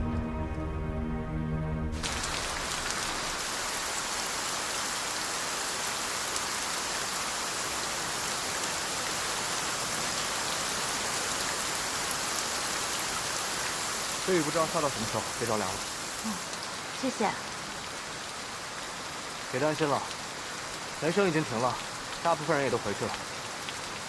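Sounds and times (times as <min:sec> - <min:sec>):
heavy rain splashing: 0:02.0 - 0:24.0.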